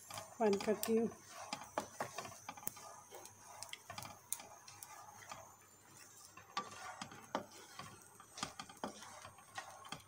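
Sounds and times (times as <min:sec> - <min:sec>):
corn kernels popping in pan: 0:00.0 - 0:10.0
wooden spatula stirring: 0:00.0 - 0:10.0.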